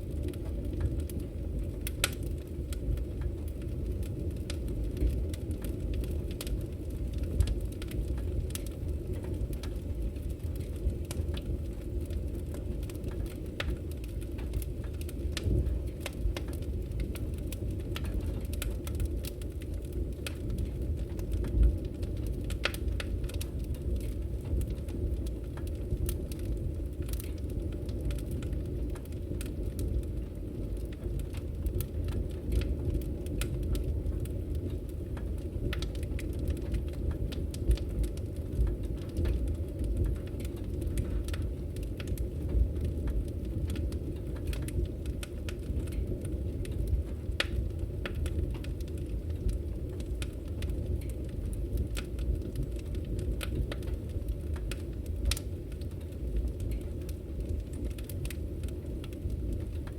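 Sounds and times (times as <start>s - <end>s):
fire rumbling in fireplace: 0.0s - 59.9s
firewood crackling and popping: 0.0s - 59.9s.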